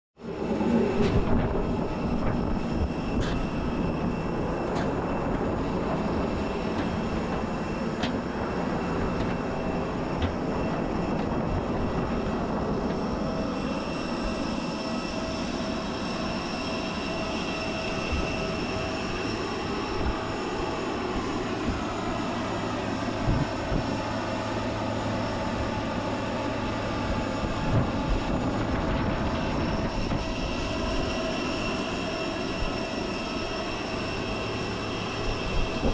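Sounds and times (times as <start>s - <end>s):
aircraft systems hum and whine: 0.2s - 35.9s.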